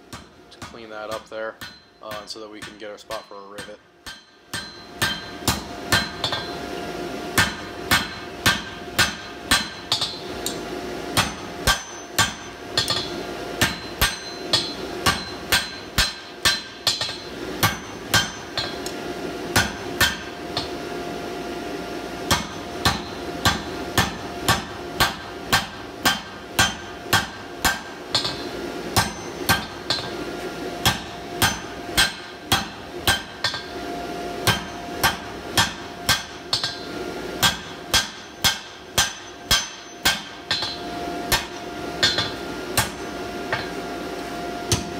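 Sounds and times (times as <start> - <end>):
steady hum: 0.0 - 44.9
hammer striking steel on anvil: 0.1 - 6.6, 7.4 - 10.6, 11.2 - 18.9, 19.5 - 20.8, 22.3 - 30.2, 30.8 - 33.8, 34.4 - 43.8, 44.7 - 44.9.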